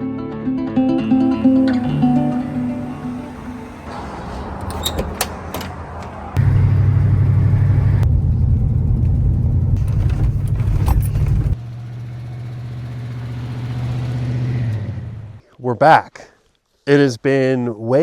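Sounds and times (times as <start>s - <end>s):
pickup engine humming: 0.8s - 15.4s.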